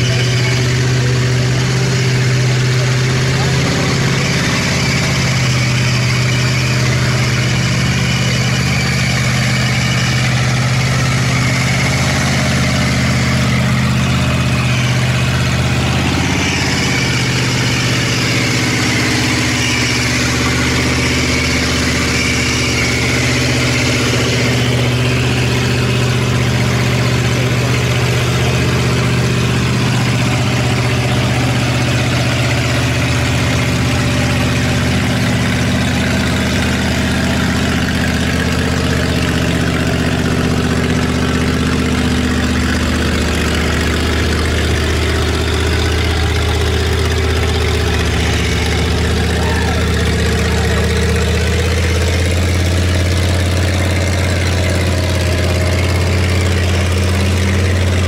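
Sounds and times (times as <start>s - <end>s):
truck engine droning at low revs: 0.0s - 58.0s.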